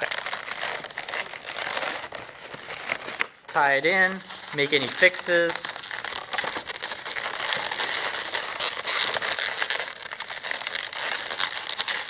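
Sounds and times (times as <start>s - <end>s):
balloons rubbing and crackling: 0.0s - 12.0s.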